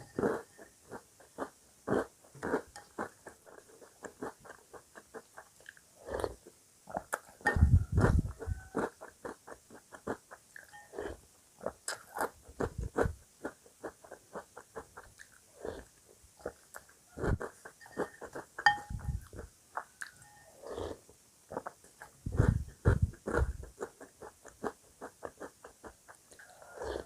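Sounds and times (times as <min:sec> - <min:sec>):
person chewing crunchy cereal: 0:00.0 - 0:27.0.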